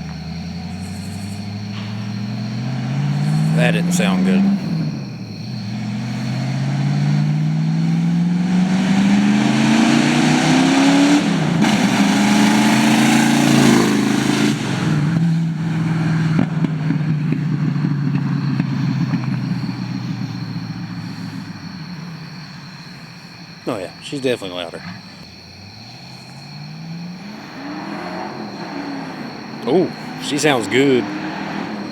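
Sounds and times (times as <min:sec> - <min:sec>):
car engine revving loud: 0:00.0 - 0:23.1, 0:25.8 - 0:31.9.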